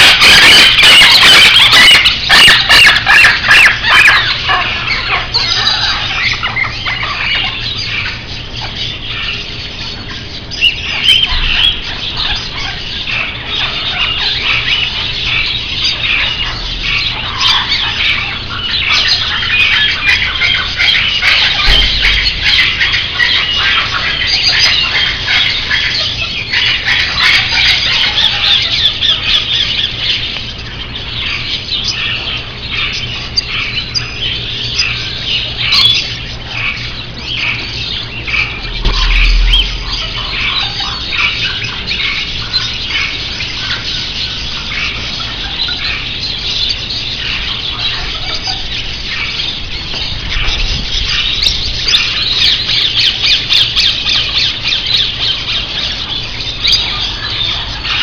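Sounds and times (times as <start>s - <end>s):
parakeets chirping and squawking: 0.0s - 58.0s.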